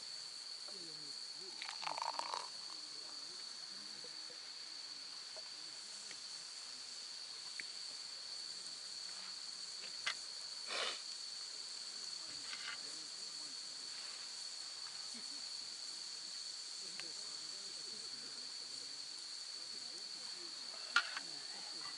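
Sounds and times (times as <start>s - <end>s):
crickets trilling: 0.0s - 21.9s.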